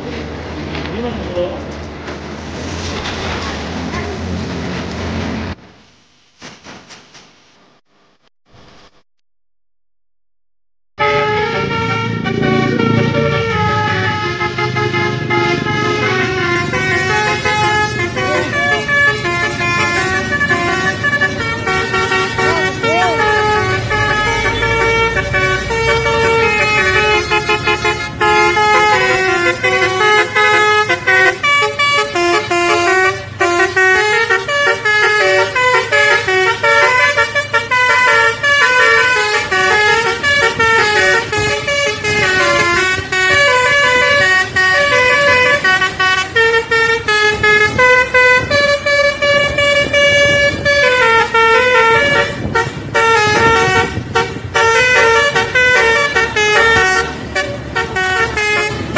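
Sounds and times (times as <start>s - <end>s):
multi-tone air horn melody: 11.0s - 58.9s.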